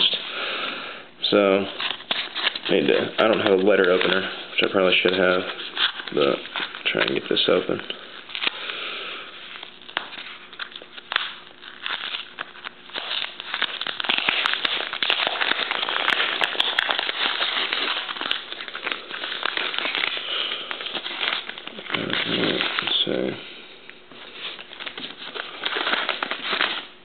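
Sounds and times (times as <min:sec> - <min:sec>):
tape and paper tearing: 0:01.7 - 0:07.6, 0:09.5 - 0:23.3, 0:24.2 - 0:26.9.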